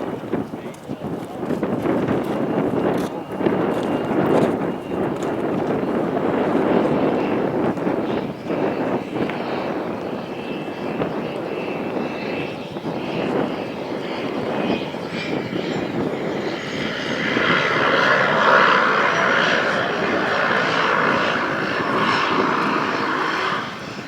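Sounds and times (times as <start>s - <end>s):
floatplane propeller engine running: 0.0s - 24.0s.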